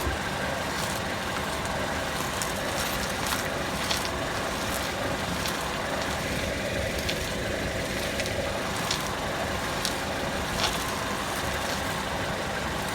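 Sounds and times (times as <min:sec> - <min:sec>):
car running noise: 0:00.0 - 0:12.9.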